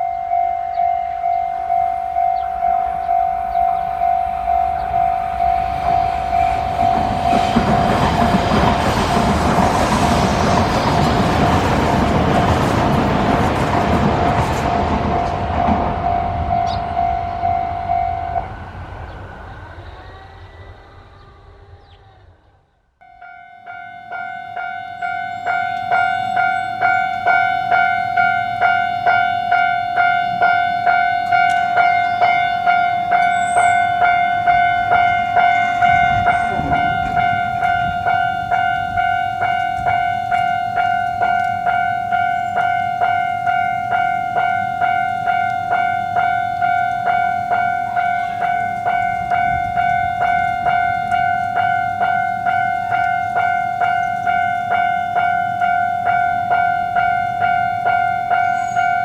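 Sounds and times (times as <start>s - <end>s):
railroad crossing bell ringing: 0.0s - 19.2s, 23.0s - 59.0s
train rumble: 0.0s - 59.0s.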